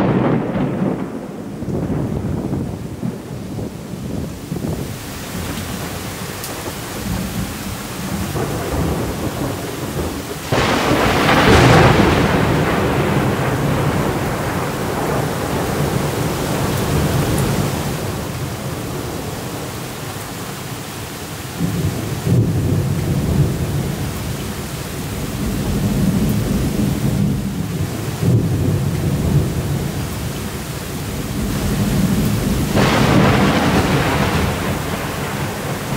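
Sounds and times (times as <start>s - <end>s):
loud thunderclap: 0.0s - 20.1s, 21.6s - 35.9s
rolling thunder: 0.0s - 20.6s, 21.4s - 35.9s
steady rain: 0.0s - 35.9s.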